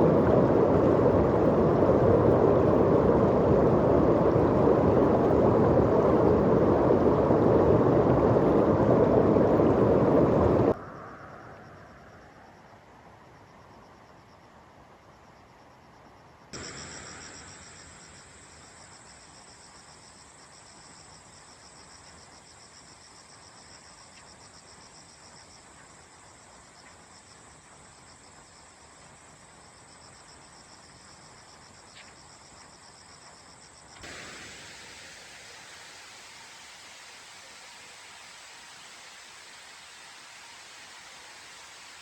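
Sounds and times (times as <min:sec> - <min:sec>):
steady hiss: 0:00.0 - 0:15.5, 0:16.1 - 0:42.0
insects trilling: 0:00.0 - 0:42.0.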